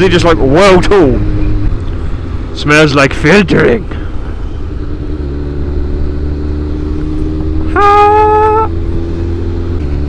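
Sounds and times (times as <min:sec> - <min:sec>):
motorcycle engine running: 0:00.8 - 0:10.0.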